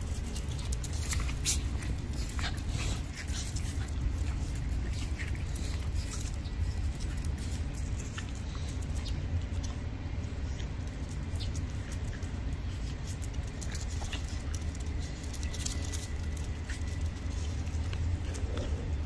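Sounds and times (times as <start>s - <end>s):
dog claws clicking on concrete: 0.0s - 19.0s.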